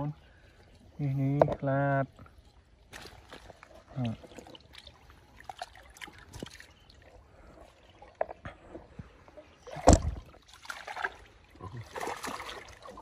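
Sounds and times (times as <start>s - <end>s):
pond water sloshing and splashing: 0.0s - 13.0s.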